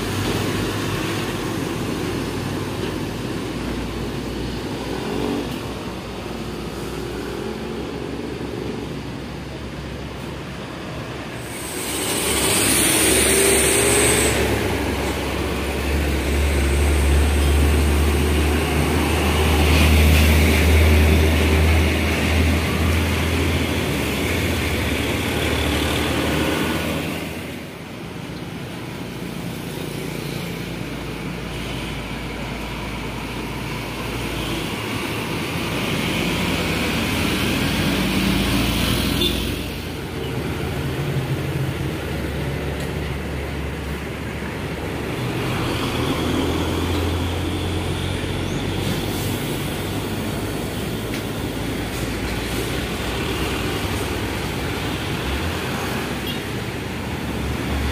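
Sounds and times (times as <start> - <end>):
diesel trucks passing: 0.0 - 57.9
road traffic passing: 0.0 - 57.9.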